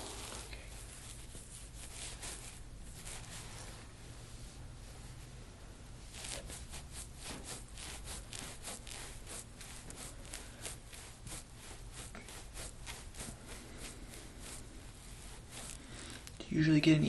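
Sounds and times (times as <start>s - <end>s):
hands rubbing skin: 0.0s - 3.9s, 6.0s - 16.4s.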